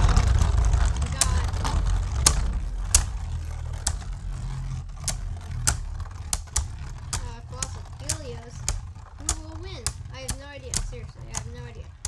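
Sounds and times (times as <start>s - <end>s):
sharp plastic clacks: 0.0s - 12.0s
spinning tops whirring: 0.0s - 12.0s.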